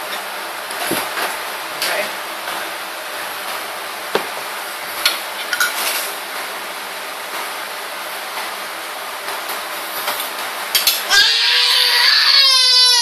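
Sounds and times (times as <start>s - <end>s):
room noise hiss: 0.0s - 11.1s.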